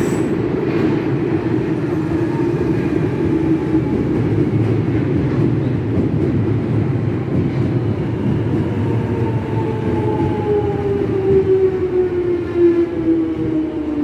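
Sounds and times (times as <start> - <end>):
underground train rumbling: 0.0 - 14.0.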